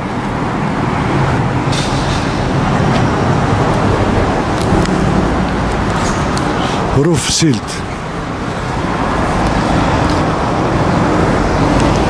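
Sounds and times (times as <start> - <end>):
passing vehicles: 0.0 - 12.0.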